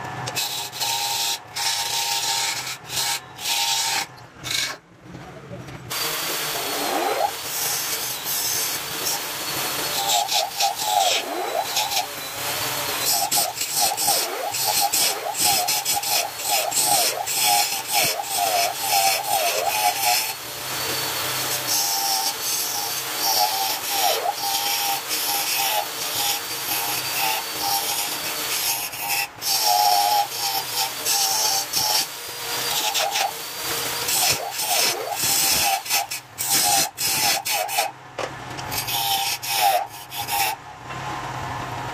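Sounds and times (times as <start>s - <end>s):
turning tool scraping wood on lathe: 5.9s - 37.9s, 38.6s - 40.6s.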